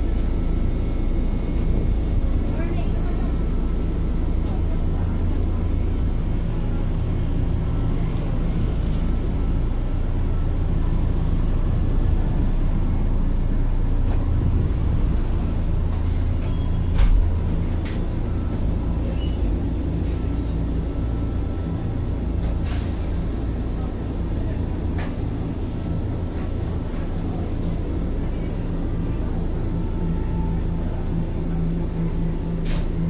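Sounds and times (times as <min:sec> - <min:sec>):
train rumbling: 0:00.0 - 0:33.0.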